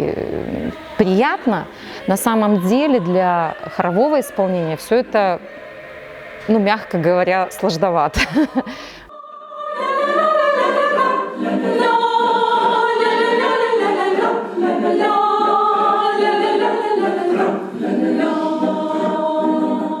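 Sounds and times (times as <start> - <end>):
choir singing a cappella: 0.0 - 20.0.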